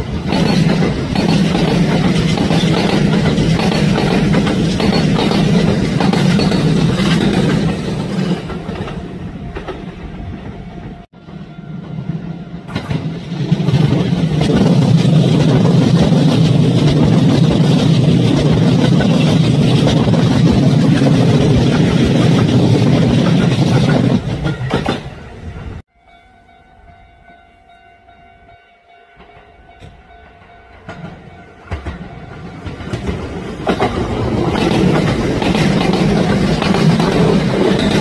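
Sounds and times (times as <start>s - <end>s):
electric train passing: 0.0s - 38.0s
wheels rushing on rail: 0.0s - 38.0s.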